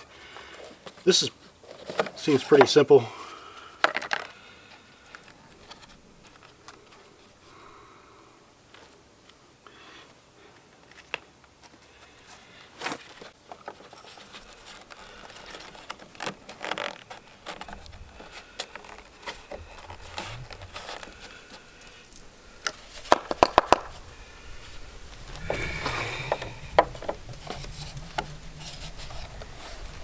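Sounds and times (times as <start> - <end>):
rustles and scrapes: 0.0 - 7.5, 8.6 - 30.0.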